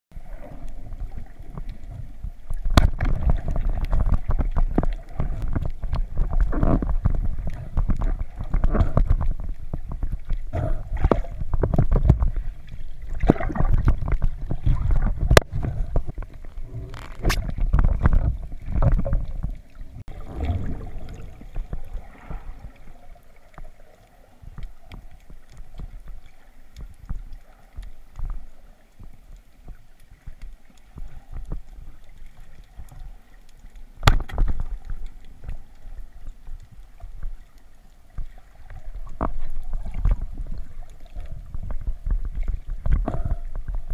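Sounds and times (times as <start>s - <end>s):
underwater rumble and rushing water: 0.1s - 43.9s.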